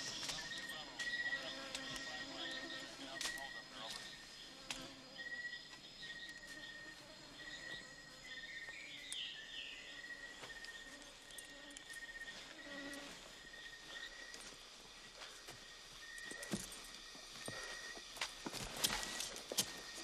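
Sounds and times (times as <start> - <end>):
insects buzzing in high trills: 0.0 - 20.0.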